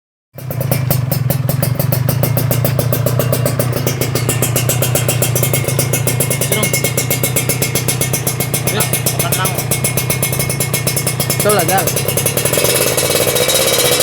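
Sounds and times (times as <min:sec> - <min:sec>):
two-stroke engine idling: 0:00.4 - 0:14.0.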